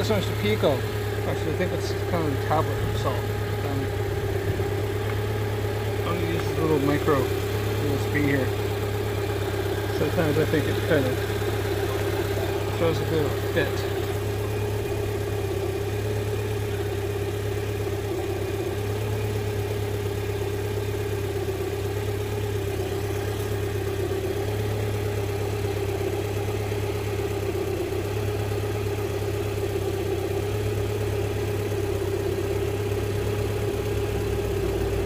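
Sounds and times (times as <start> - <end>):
car engine idling lumpy: 0.0 - 35.0.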